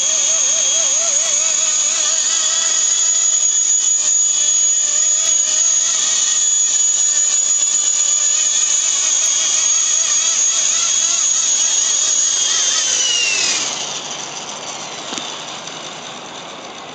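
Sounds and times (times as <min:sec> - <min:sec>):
electric helicopter motor whine: 0:00.0 - 0:16.9.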